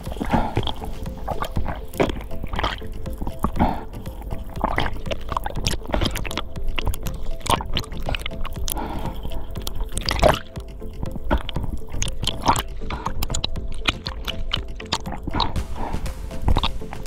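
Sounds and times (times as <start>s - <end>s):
clicks and splashes: 0.0s - 17.0s
water sloshing and bubbling underwater: 0.0s - 17.0s.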